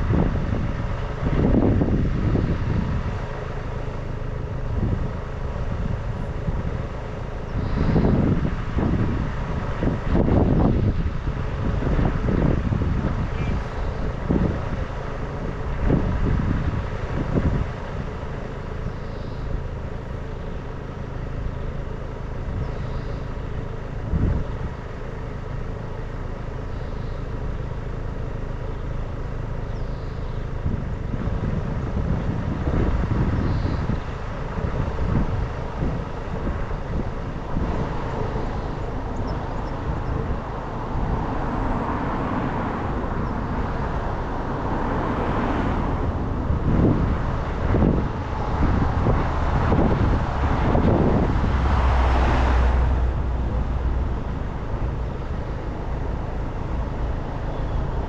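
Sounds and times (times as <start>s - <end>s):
wind buffeting microphone: 0.0s - 21.3s, 22.0s - 26.6s, 30.4s - 58.0s
vehicle engine and road noise: 0.0s - 58.0s.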